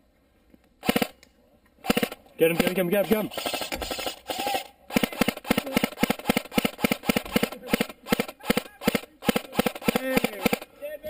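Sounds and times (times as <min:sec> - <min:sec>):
airsoft rifle firing single shots: 0:00.8 - 0:01.2, 0:01.8 - 0:10.7.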